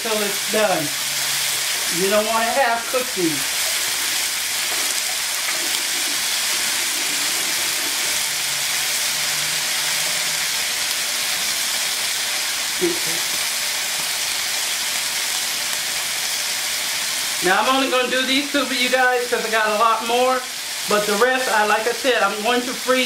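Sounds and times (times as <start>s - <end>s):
chicken sizzling in grill pan: 0.0s - 23.0s.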